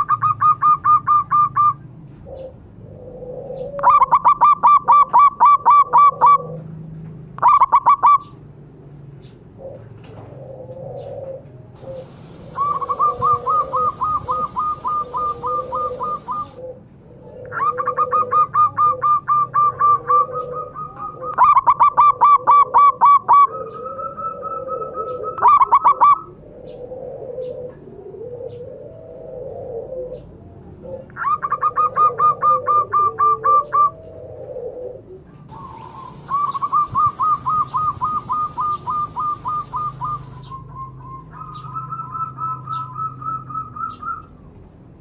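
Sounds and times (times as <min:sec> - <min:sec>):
dove rapid high cooing: 0:00.0 - 0:06.8, 0:07.4 - 0:08.4, 0:09.5 - 0:44.4.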